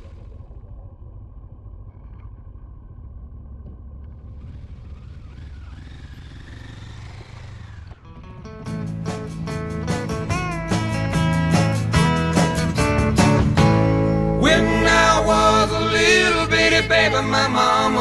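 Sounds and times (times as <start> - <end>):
high whine: 0.0 - 18.0
vehicle engine road rumble: 0.0 - 18.0.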